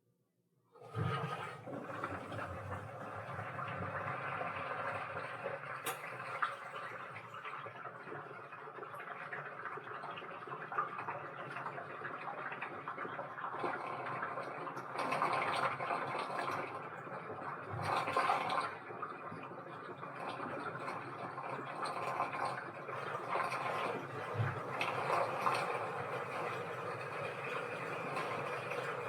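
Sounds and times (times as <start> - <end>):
water rushing into washing machine: 0.7 - 29.0.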